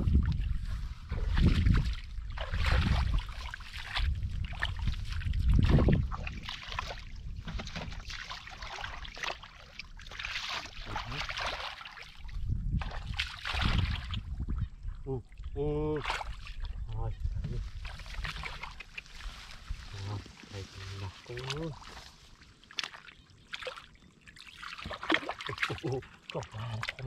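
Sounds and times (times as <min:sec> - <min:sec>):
muddy water splashing: 0:00.0 - 0:27.0.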